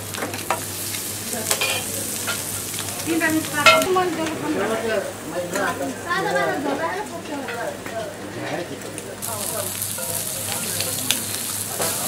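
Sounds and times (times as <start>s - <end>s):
food sizzling on hot griddle: 0.0s - 12.0s.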